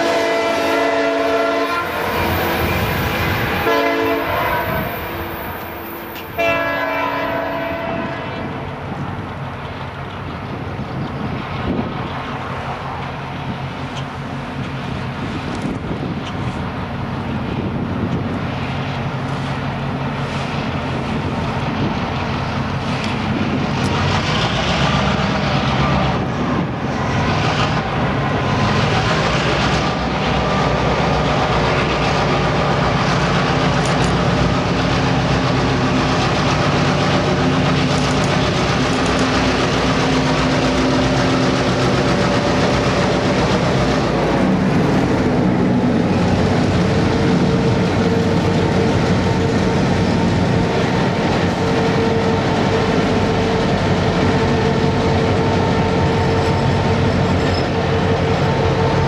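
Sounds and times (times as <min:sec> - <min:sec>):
diesel locomotive engines running: 0:00.0 - 0:59.0
freight cars rolling: 0:01.1 - 0:59.0.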